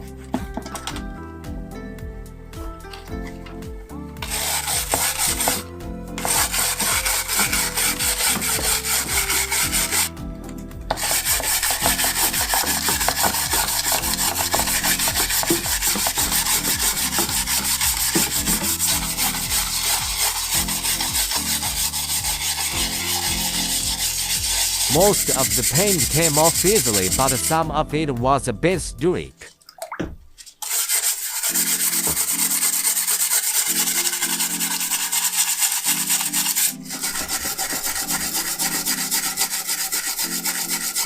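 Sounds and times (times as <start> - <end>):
scrubbing paint off metal: 4.2 - 10.1, 10.9 - 27.6, 30.3 - 41.0.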